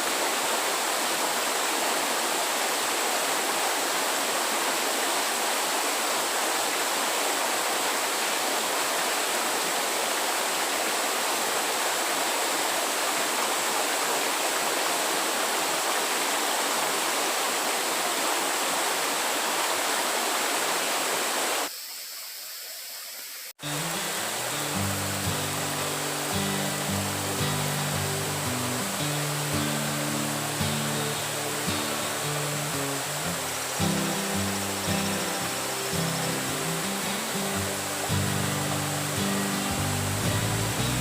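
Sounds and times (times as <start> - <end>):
running water rushing: 0.0 - 41.0.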